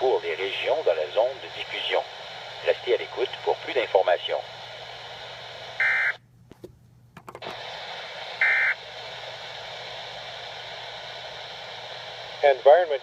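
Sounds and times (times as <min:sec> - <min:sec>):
radio receiver hiss: 0:00.0 - 0:06.7, 0:07.3 - 0:13.0
faint hum: 0:00.0 - 0:13.0.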